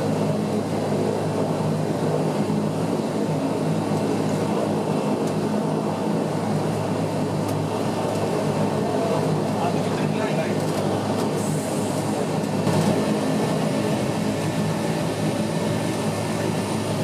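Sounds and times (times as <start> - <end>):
turboprop engine droning: 0.0 - 17.0.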